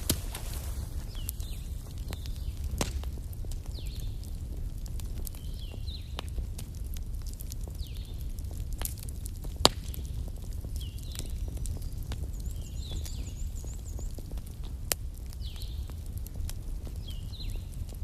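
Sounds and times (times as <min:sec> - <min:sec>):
low rumble of flames: 0:00.0 - 0:18.0
sharp pops from fire: 0:00.0 - 0:18.0
wood fire crackling: 0:00.0 - 0:18.0.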